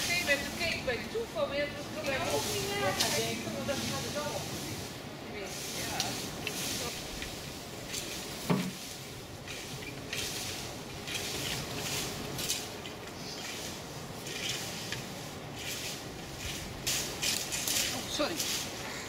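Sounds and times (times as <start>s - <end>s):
rakes scraping through dry leaves: 0.0s - 19.0s.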